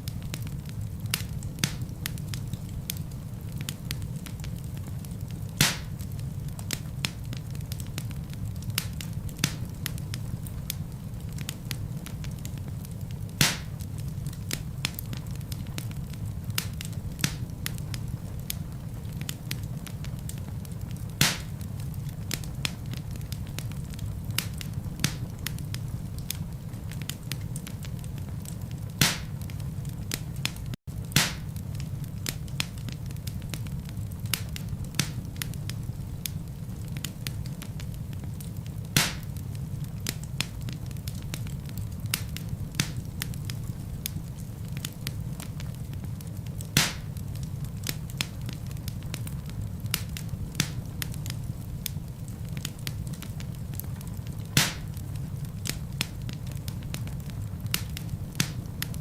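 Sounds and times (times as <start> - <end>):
burning logs popping: 0.0 - 59.0
fire crackling: 0.0 - 59.0
wood fire rumbling: 0.0 - 59.0.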